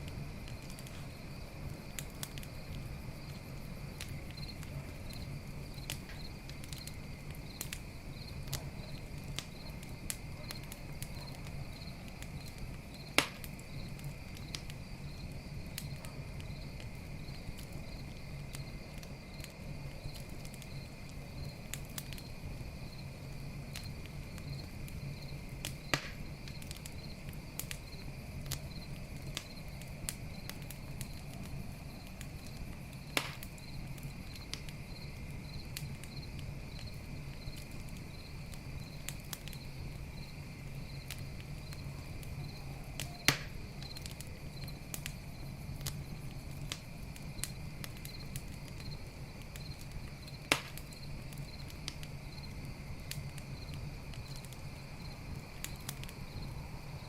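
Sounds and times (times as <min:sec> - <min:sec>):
loud fire pops: 0:00.0 - 0:56.6
campfire crackling: 0:00.0 - 0:57.0
crickets chirping: 0:00.0 - 0:57.0.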